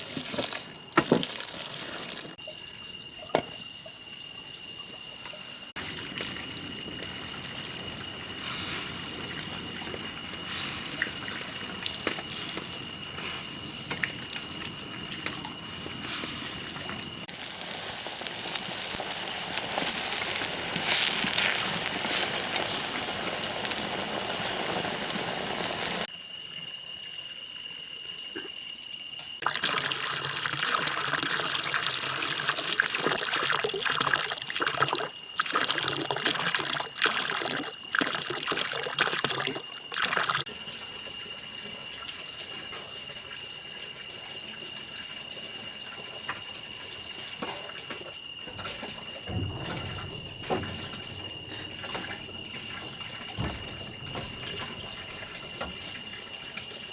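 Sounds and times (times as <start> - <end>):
water running and splashing: 0.0 - 26.1, 29.4 - 56.9.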